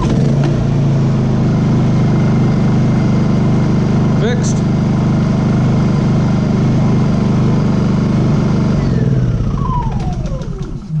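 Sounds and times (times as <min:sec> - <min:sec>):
engine winding down whine: 0:00.0 - 0:11.0
generator engine idling: 0:00.0 - 0:11.0.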